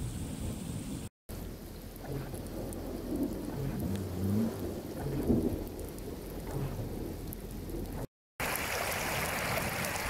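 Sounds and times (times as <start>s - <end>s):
low rumble: 0.0s - 8.1s
rain falling on water: 1.3s - 10.0s.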